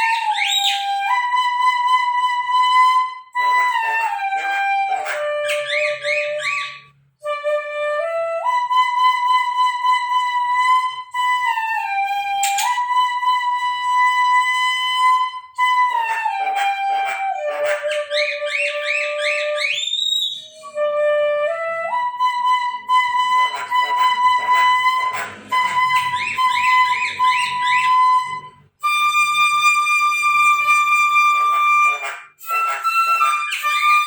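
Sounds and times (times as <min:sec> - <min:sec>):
high bamboo flute melody: 0:00.0 - 0:34.0
soft accompaniment: 0:00.0 - 0:34.0.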